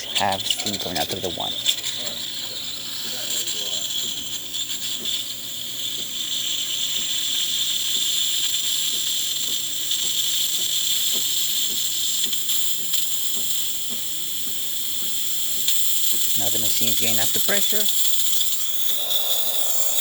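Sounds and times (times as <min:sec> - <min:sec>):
steam hissing: 0:00.0 - 0:20.0
water pump ticking: 0:00.0 - 0:20.0.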